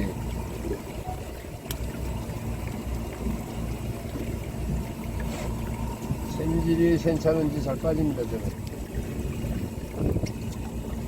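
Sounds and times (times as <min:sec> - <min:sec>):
boat engine rumbling: 0:00.0 - 0:11.0
faint steady hum: 0:00.0 - 0:11.0.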